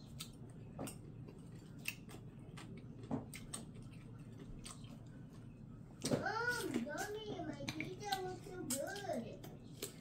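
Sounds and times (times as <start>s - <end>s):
faint chewing: 0.0s - 10.0s.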